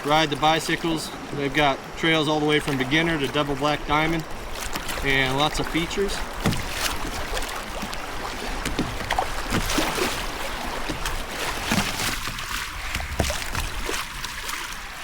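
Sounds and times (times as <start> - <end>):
paddle splashes and knocks: 0.0 - 15.0
river water trickling and lapping: 0.0 - 15.0.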